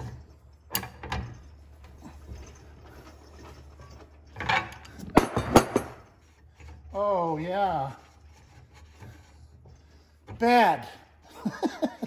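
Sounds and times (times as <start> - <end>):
metal scrape: 0.0 - 10.8.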